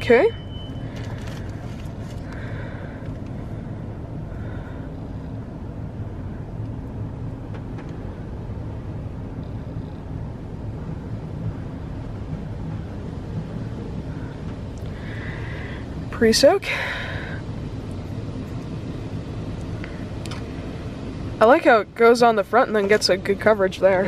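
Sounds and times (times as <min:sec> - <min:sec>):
car engine idling: 0:00.0 - 0:24.0
car wash droning: 0:00.0 - 0:24.0.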